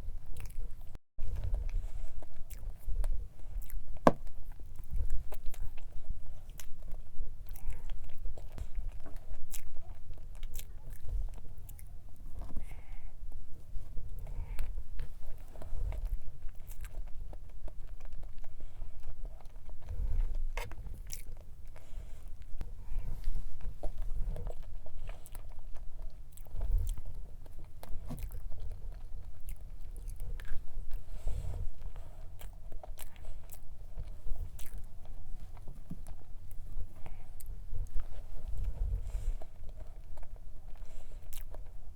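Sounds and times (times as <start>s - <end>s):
person chewing and biting cake: 0.1s - 41.9s.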